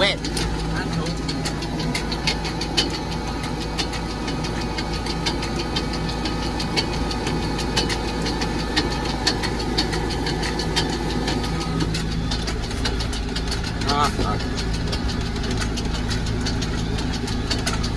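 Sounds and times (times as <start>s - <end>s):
rattling clicks and knocks: 0.0s - 17.9s
tractor engine running: 0.0s - 17.9s.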